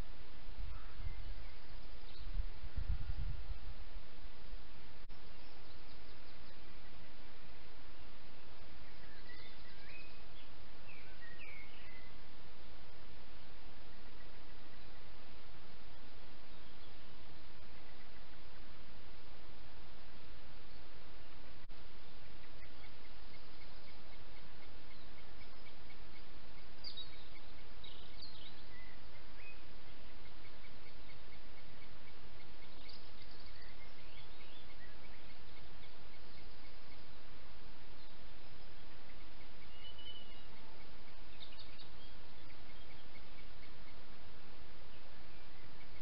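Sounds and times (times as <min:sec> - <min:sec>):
microphone hiss: 0:00.0 - 0:46.0
small birds chirping: 0:00.0 - 0:46.0.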